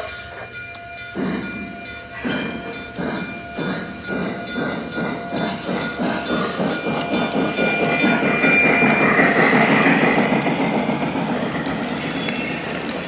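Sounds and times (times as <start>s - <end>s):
model train rolling on track: 0.0s - 13.0s
rail joint clicks: 0.0s - 13.0s.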